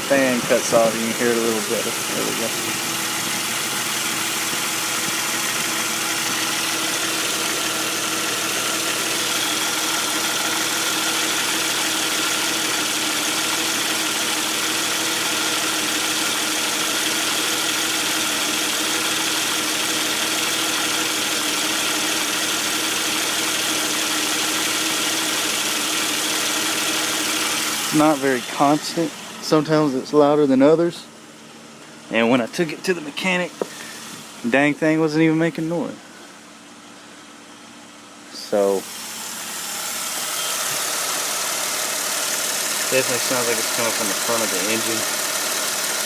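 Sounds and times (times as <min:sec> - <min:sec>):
car engine idling: 0:00.0 - 0:46.0
uneven engine rattle: 0:00.0 - 0:46.0.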